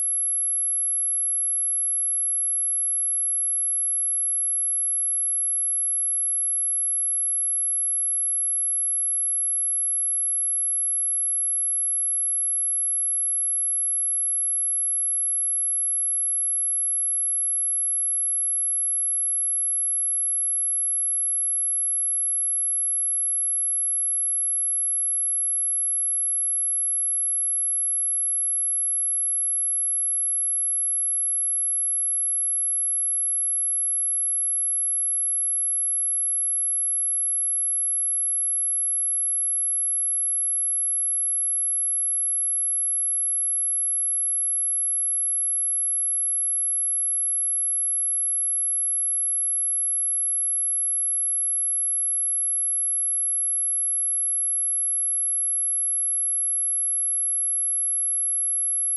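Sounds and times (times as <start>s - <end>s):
high-pitched sine test tone: 0.0s - 58.9s.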